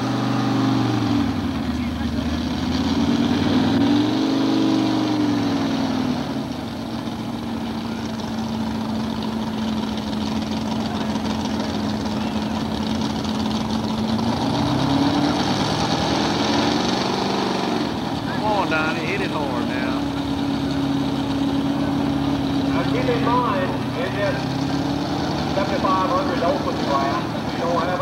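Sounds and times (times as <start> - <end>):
tractor engines revving: 0.0 - 28.0.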